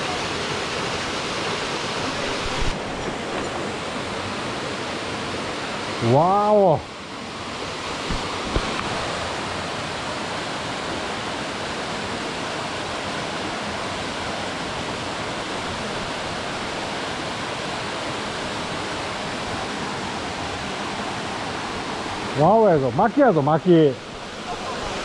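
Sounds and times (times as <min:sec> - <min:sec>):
water rushing in stream: 0:00.0 - 0:25.0.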